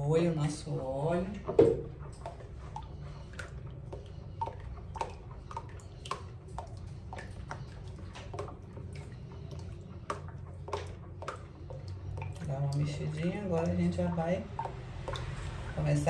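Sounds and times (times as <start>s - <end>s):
ladle stirring liquid sloshing: 0.0s - 16.0s
steady low hum: 0.0s - 16.0s.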